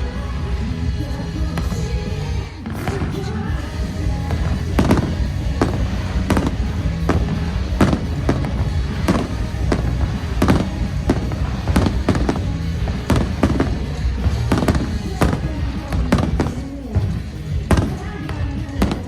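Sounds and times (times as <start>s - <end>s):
loud music: 0.0s - 19.0s
fireworks bursting: 1.3s - 19.0s.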